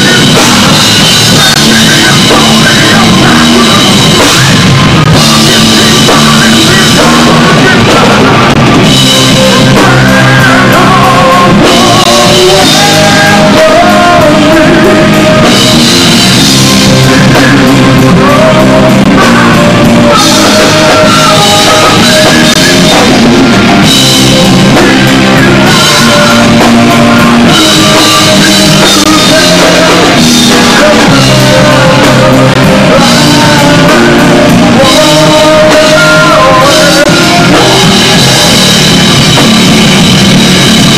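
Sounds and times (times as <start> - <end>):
drum kit: 0.0 - 40.9
electric guitar: 0.0 - 40.9
person singing: 0.0 - 40.9.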